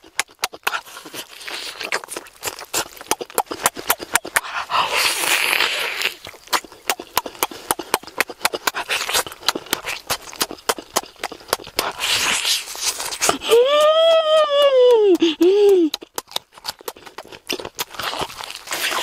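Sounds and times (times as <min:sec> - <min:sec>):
wet smacking and chewing: 0:00.0 - 0:19.0.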